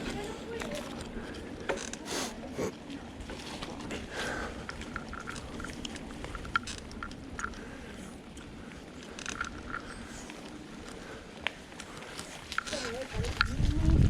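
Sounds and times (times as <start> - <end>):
bicycle tyres rattling on dirt trail: 0.0 - 14.0.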